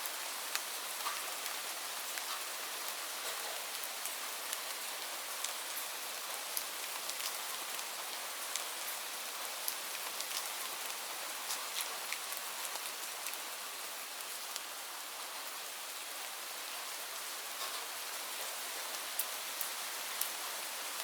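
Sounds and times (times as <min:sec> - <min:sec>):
rain hiss: 0:00.0 - 0:21.0
raindrops ticking on a surface: 0:00.0 - 0:21.0.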